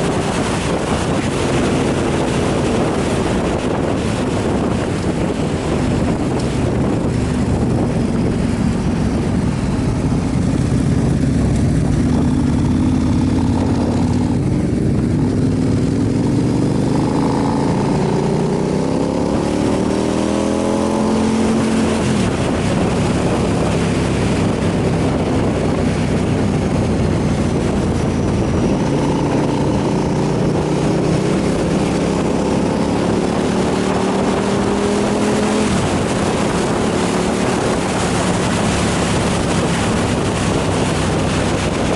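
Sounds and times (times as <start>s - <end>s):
motorcycle engine accelerating: 0.0s - 41.9s
wind rush on microphone: 0.0s - 41.9s.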